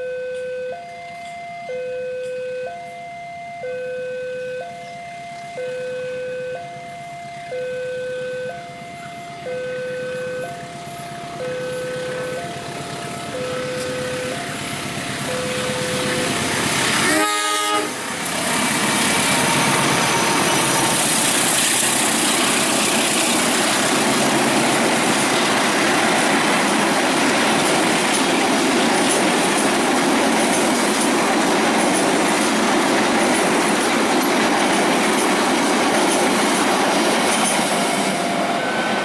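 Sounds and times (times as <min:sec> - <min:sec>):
train wheels running on rails: 0:00.0 - 0:03.8, 0:04.4 - 0:39.0.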